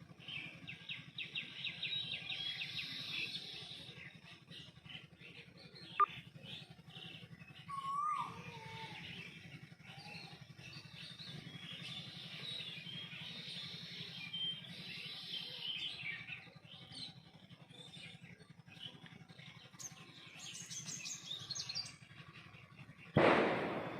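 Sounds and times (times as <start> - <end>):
low hum: 0.0 - 23.9
small birds chirping: 0.0 - 23.9.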